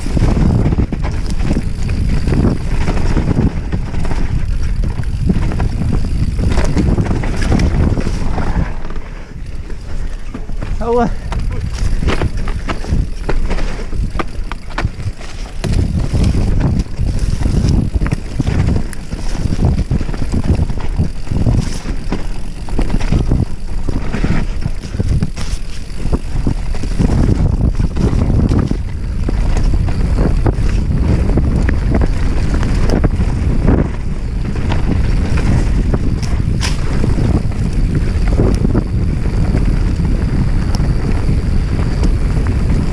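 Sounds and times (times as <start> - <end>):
bike rattling over bumps: 0.0 - 42.9
wind buffeting microphone: 0.0 - 42.9.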